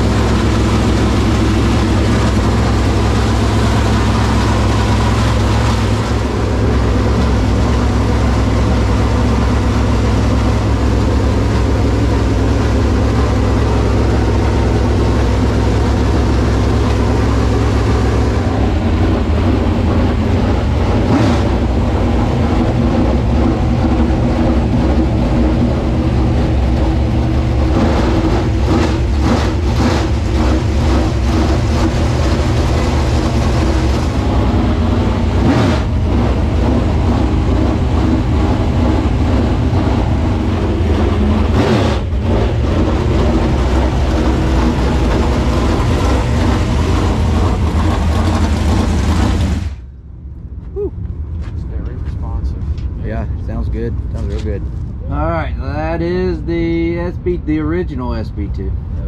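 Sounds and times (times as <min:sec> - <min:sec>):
race car engine idling loudly: 0:00.0 - 0:59.0.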